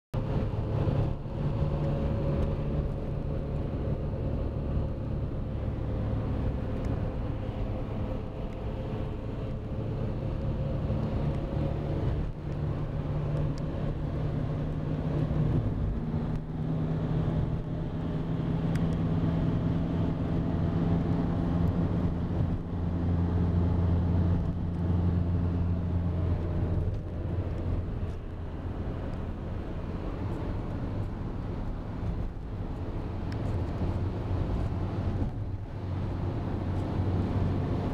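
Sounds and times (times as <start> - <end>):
vehicle engine and tyre noise: 0.1 - 37.9.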